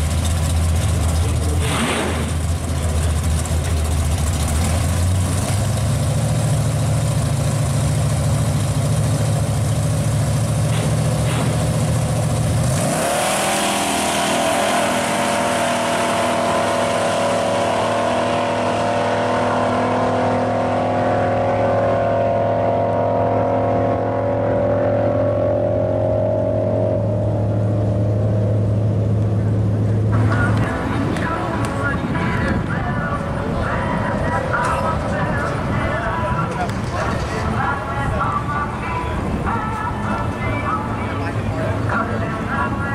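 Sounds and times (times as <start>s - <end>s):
car engines rumbling at idle: 0.0s - 42.9s
drag race car engines revving: 0.0s - 42.9s.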